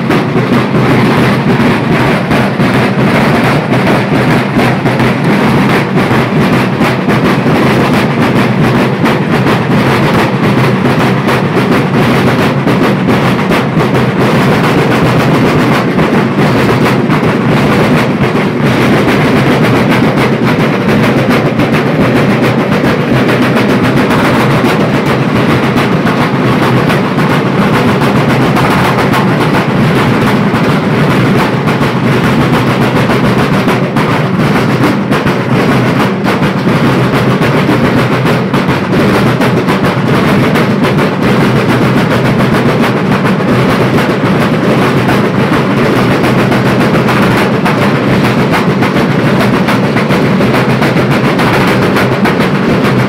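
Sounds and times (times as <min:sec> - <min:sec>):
band of drums playing: 0:00.0 - 0:53.0.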